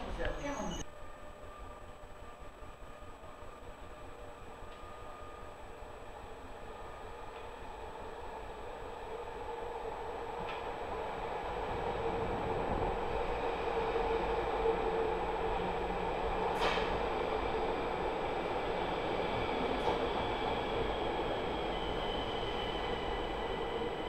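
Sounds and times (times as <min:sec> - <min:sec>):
train wheels rumbling on rail: 0:01.7 - 0:24.0.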